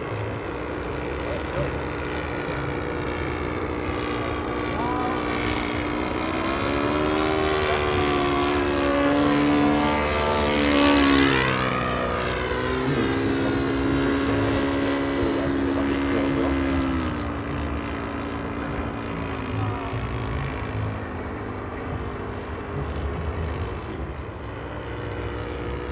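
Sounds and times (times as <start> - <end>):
model airplane propeller engine droning: 0.0 - 25.9.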